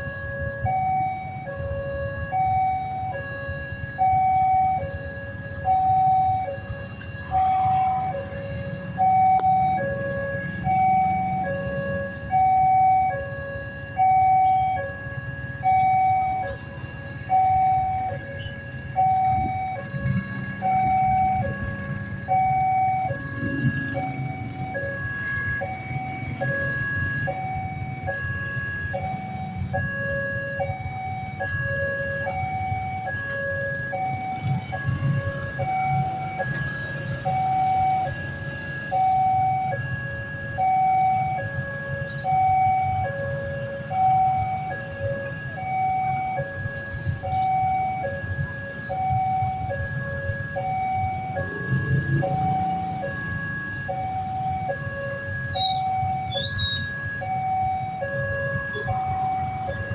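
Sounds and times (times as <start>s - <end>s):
level crossing two-tone alarm: 0.0s - 59.9s
slow traffic rumble: 0.0s - 59.9s.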